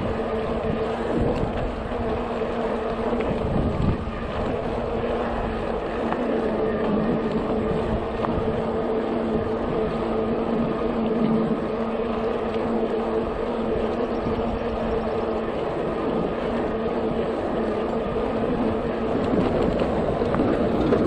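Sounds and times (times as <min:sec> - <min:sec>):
electric motor hum: 0:00.0 - 0:21.0
wind on microphone: 0:00.0 - 0:21.0.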